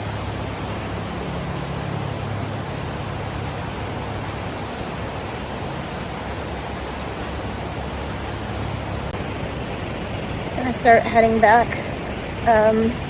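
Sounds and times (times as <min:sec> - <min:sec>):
waterfall and creek rushing: 0:00.0 - 0:13.0.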